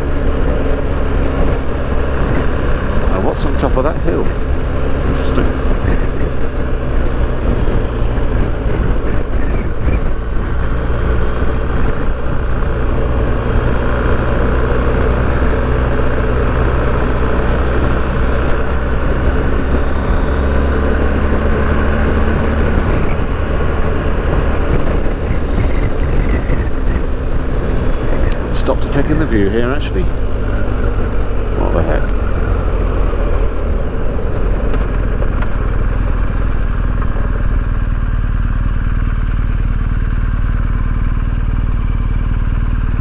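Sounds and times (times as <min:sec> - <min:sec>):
wind noise: 0:00.0 - 0:38.0
motorcycle engine running: 0:00.0 - 0:43.0.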